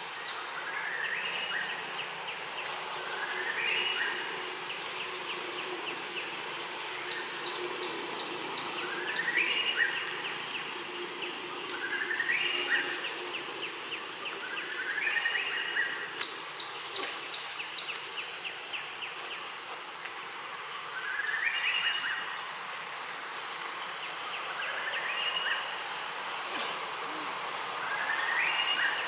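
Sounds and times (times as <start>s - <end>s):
steady insect hiss: 0.0s - 29.0s.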